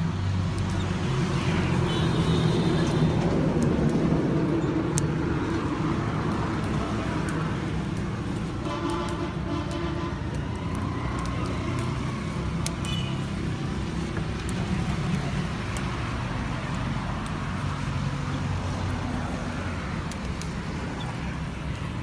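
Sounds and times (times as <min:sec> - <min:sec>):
low rumble of traffic: 0:00.0 - 0:22.0.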